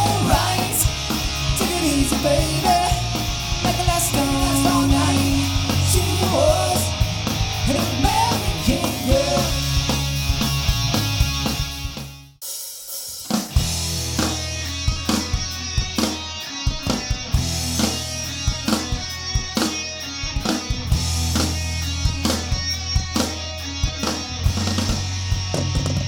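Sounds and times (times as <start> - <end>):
bass guitar: 0.0 - 12.4, 13.5 - 26.0
electric guitar: 0.0 - 12.4, 13.4 - 26.0
drum kit: 0.0 - 26.0.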